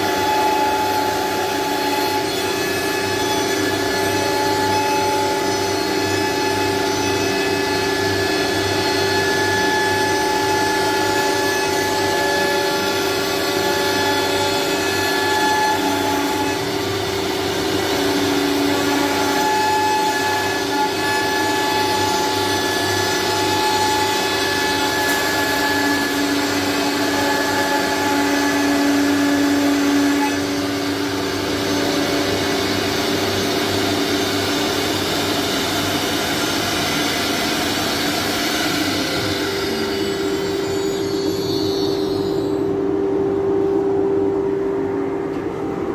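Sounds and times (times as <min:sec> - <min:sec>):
wood router whining: 0:00.0 - 0:43.0.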